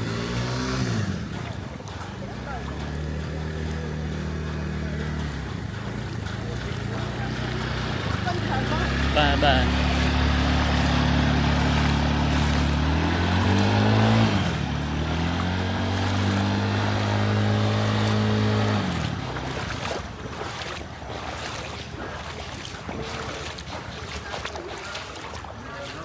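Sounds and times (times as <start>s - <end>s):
vehicle engine revving: 0.0s - 24.7s
water washing: 0.0s - 26.0s.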